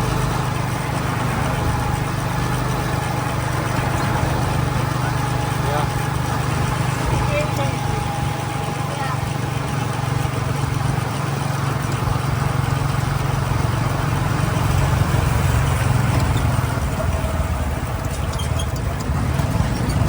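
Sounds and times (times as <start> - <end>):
motorcycle engine hum: 0.0 - 20.0
road and wind noise: 0.0 - 20.0.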